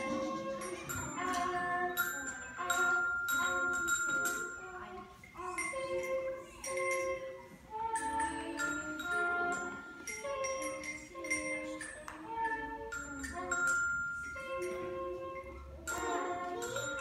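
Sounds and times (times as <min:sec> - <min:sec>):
glockenspiels played with mallets: 0:00.0 - 0:17.0.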